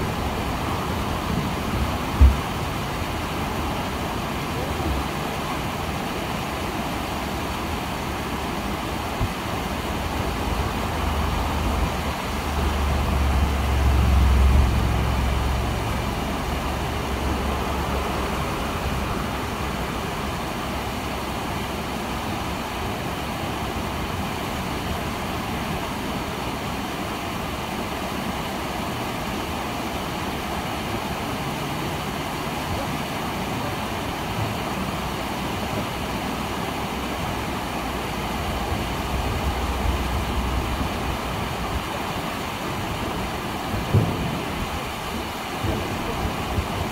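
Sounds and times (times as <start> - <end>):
waterfall rushing over rocks: 0.0 - 46.9.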